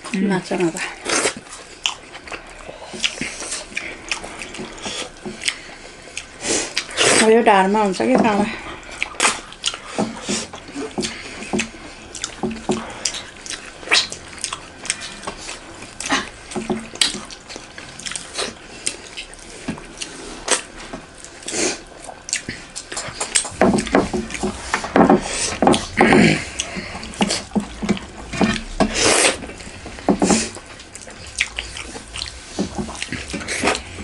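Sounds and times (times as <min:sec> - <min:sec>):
wet chewing and lip smacking: 0:00.0 - 0:07.3, 0:08.4 - 0:34.0.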